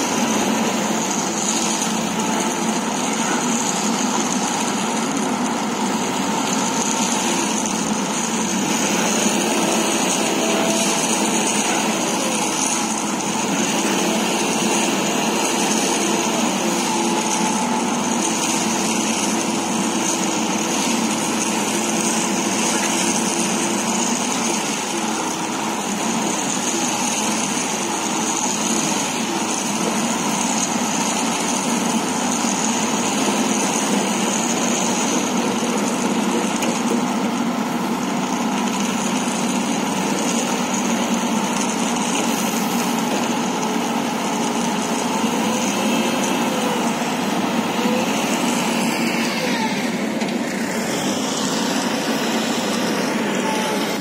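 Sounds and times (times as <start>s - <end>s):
pile driver machinery running: 0.0s - 54.0s.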